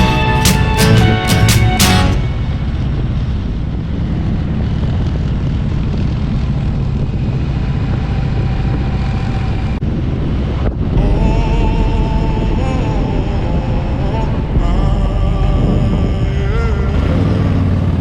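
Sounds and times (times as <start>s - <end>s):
steady whine: 0.0s - 5.3s, 7.6s - 17.5s
wind noise on microphone: 0.0s - 18.0s
motorcycle engine drone: 2.2s - 18.0s.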